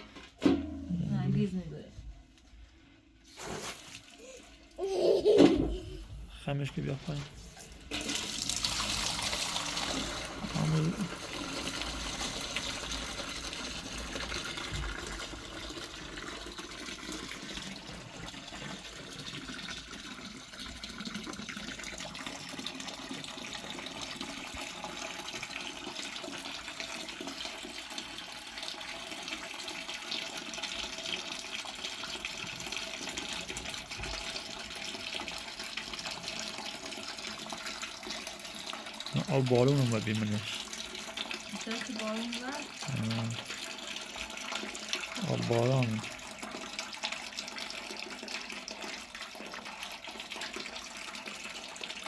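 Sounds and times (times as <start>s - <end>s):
water running from a pipe: 2.9s - 52.0s.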